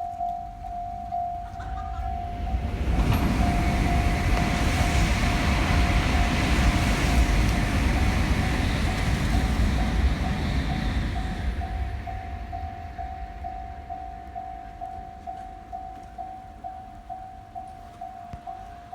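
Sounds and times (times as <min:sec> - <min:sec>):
crossing warning bell ringing: 0:00.0 - 0:18.9
train passing: 0:00.0 - 0:18.9.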